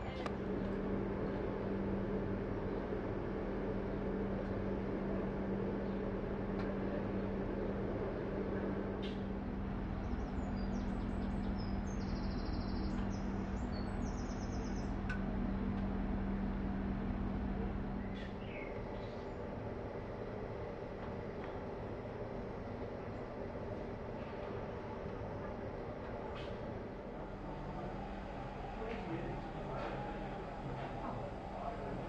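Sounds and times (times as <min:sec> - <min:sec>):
diesel train engine humming: 0:00.0 - 0:32.0.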